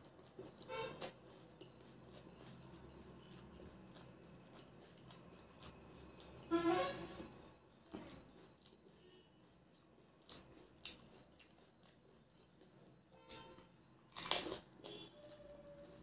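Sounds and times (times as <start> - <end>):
chewing with wet clicks: 0.0 - 6.5, 7.2 - 16.0.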